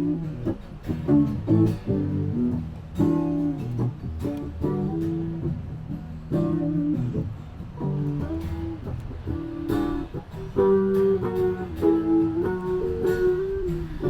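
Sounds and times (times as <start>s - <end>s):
guitar strummed and picked: 0.0s - 14.0s.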